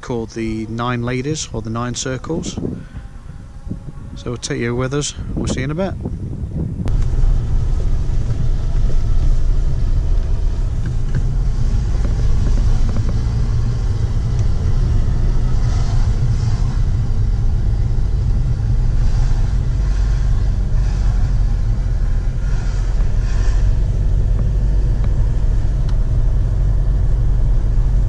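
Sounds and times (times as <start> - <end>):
car engine and road noise inside cabin: 0.0 - 28.0.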